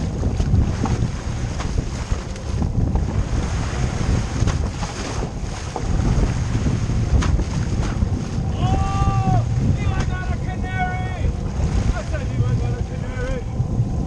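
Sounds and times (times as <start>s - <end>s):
waves slapping boat hull: 0.0s - 14.0s
wind buffeting microphone: 0.0s - 14.0s.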